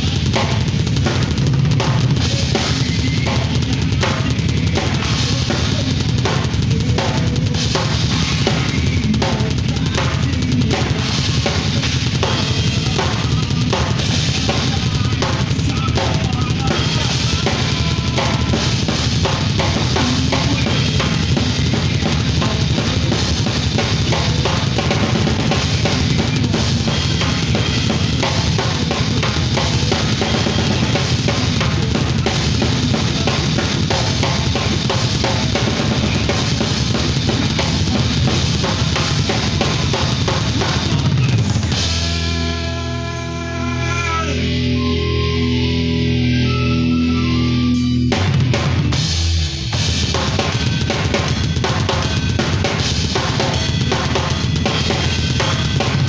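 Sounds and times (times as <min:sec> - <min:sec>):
electronic drum kit beat: 0:00.0 - 0:42.6, 0:47.6 - 0:56.0
backing track: 0:00.0 - 0:56.0.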